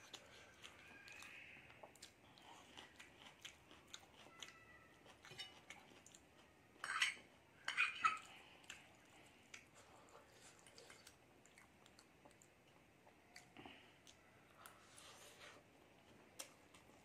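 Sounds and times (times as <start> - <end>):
chewing noodles: 0.0 - 6.5, 7.2 - 17.0.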